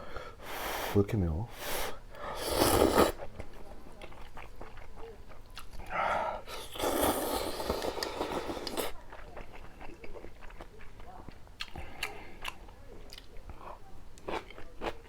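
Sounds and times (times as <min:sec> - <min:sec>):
person chewing crunchy food: 0:02.4 - 0:05.9, 0:06.5 - 0:15.0.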